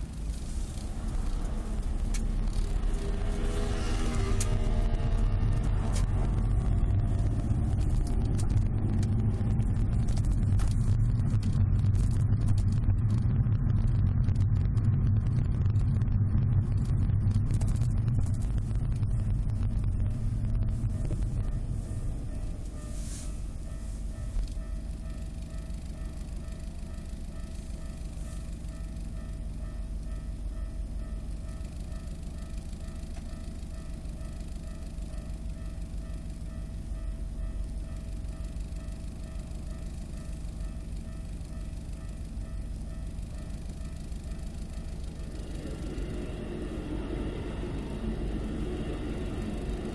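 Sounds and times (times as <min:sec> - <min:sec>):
car road and drivetrain rumble: 0:00.0 - 0:49.9.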